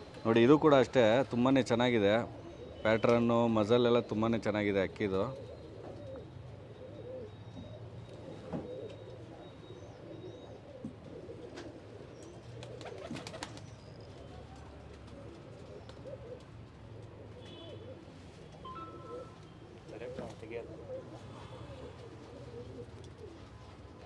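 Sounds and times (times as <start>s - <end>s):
pigeons cooing: 1.9s - 24.0s.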